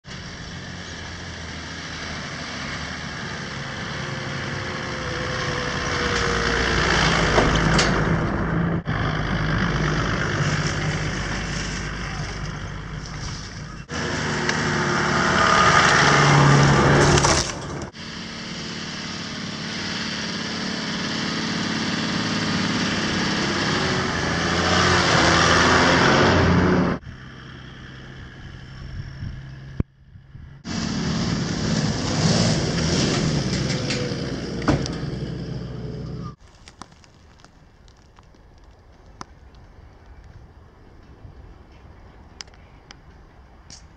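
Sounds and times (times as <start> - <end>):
four-wheel drive engine driving: 0.0 - 38.7.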